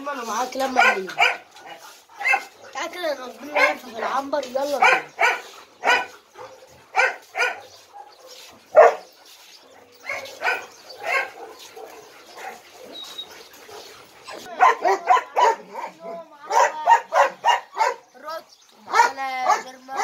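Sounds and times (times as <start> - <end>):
dogs barking: 0.5 - 18.2, 18.8 - 20.0.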